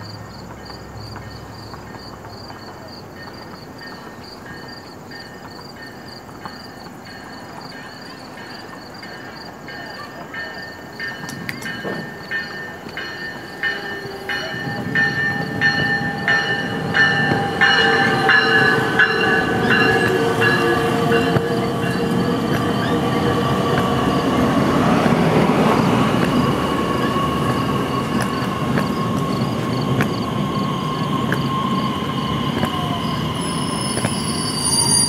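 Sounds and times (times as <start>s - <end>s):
electric train approaching: 0.0s - 35.0s.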